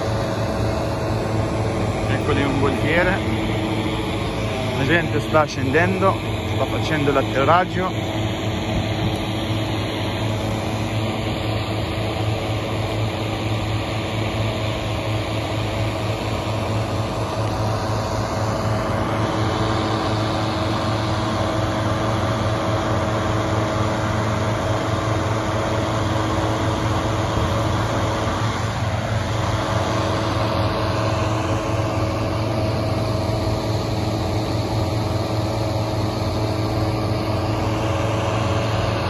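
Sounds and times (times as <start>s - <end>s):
engine-driven fan droning: 0.0s - 39.0s.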